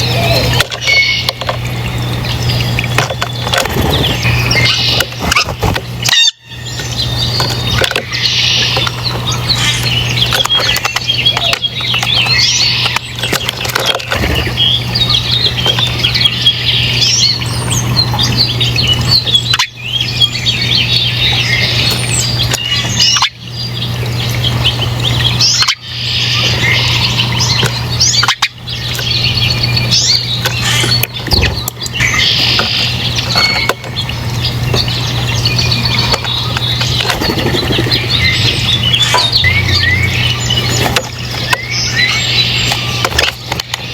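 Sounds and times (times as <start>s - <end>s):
small birds chirping and twittering: 0.0s - 43.9s
steady low hum: 0.0s - 43.9s.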